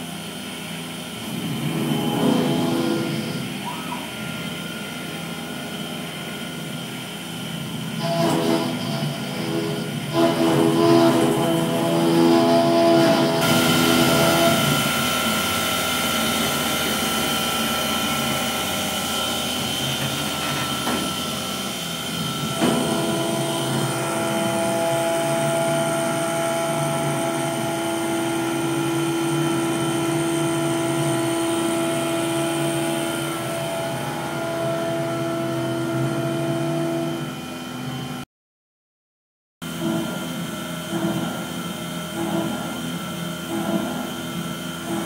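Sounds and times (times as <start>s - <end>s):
milling machine spindle whining: 0.2s - 38.2s.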